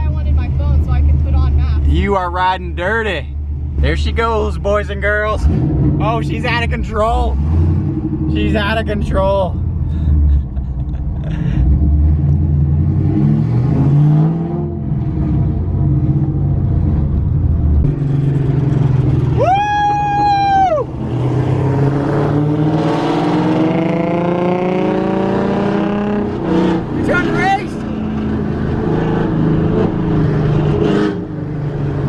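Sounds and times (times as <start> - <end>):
car engine running: 0.0 - 12.9, 14.8 - 32.0.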